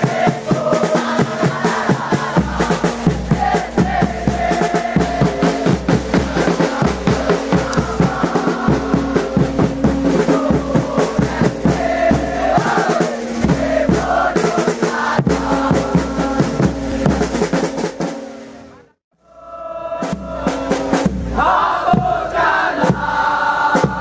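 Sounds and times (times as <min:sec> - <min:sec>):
football supporters chanting: 0:00.0 - 0:17.6, 0:19.2 - 0:24.0
fast drumbeat: 0:00.0 - 0:18.4, 0:19.9 - 0:24.0.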